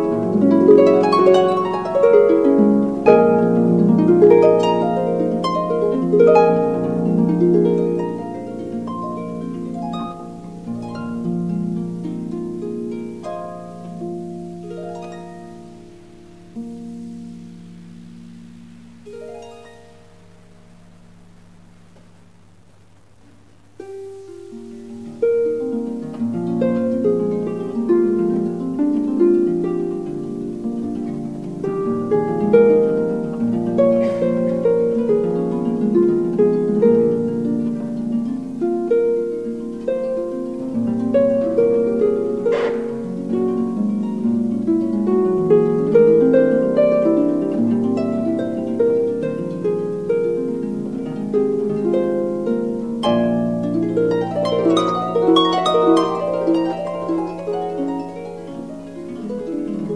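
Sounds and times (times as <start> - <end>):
harp playing: 0.0 - 21.3, 23.8 - 59.9.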